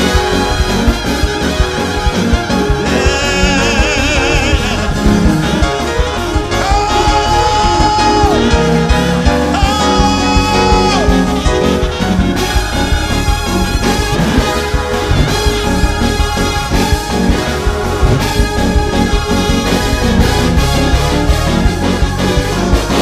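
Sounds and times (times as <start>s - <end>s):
long held high notes: 0.0s - 22.8s
fast gospel band music: 0.0s - 23.0s.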